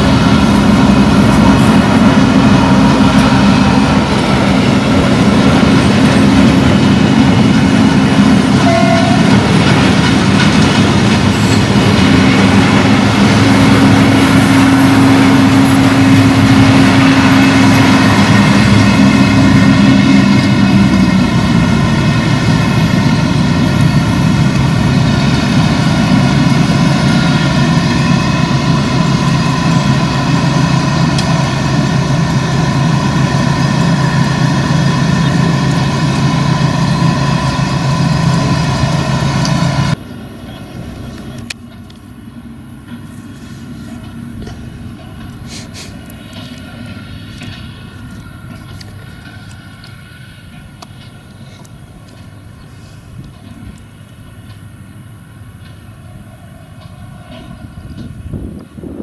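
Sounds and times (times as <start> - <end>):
combine harvester engine drone: 0.0 - 59.0
high machinery whine: 0.0 - 59.0.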